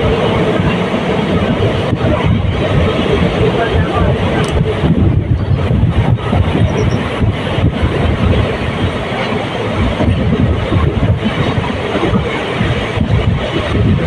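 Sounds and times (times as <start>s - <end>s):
train running along track: 0.0s - 14.0s.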